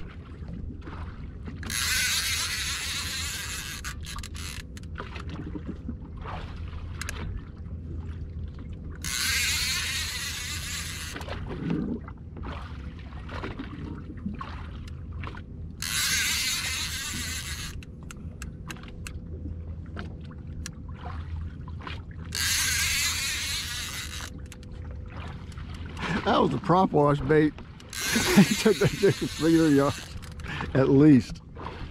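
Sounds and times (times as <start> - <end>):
boat motor humming: 0.0 - 31.9.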